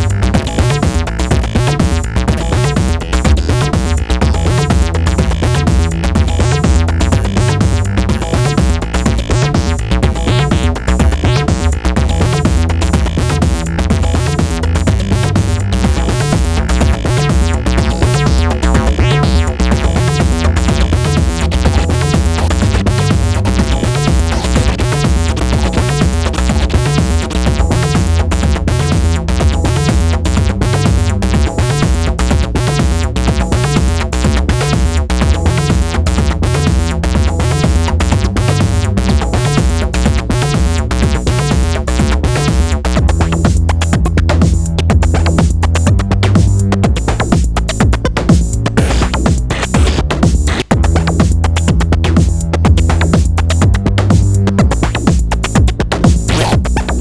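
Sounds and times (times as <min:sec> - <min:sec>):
electronic percussion: 0:00.0 - 0:57.0
filtered synth bassline: 0:00.0 - 0:57.0.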